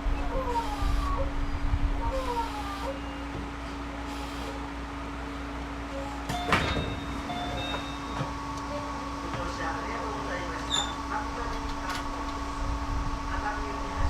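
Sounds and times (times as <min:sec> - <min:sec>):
train equipment hum: 0:00.0 - 0:14.0
train doors sliding open: 0:00.1 - 0:13.3.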